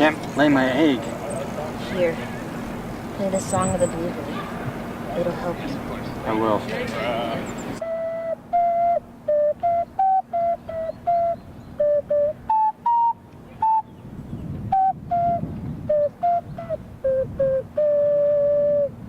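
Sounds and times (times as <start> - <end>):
ocarina melody: 0.0 - 19.0.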